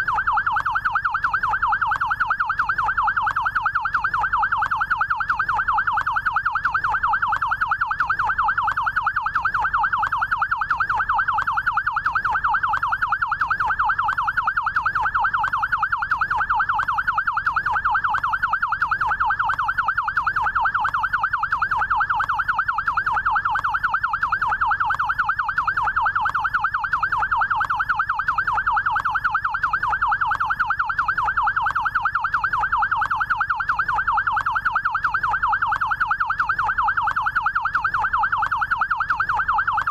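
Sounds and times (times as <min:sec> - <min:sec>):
electronic yelp siren: 0:00.0 - 0:39.9.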